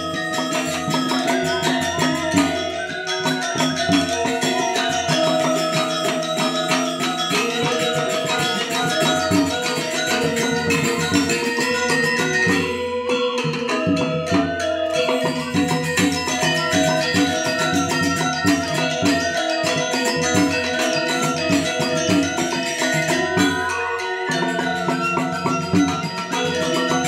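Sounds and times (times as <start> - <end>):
bronze metallophones struck: 0.0 - 27.0
hand drum: 0.0 - 27.0.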